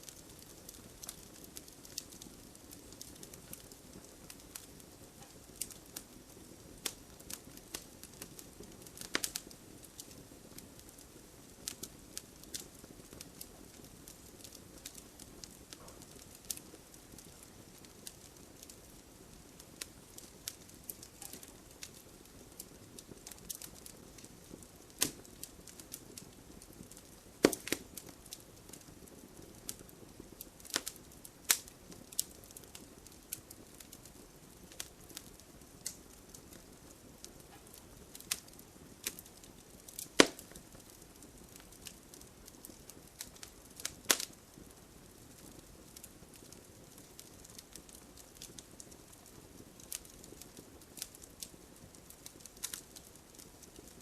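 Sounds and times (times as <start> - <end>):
faint fire hiss: 0.0 - 54.0
wood fire crackling and popping: 0.0 - 54.0.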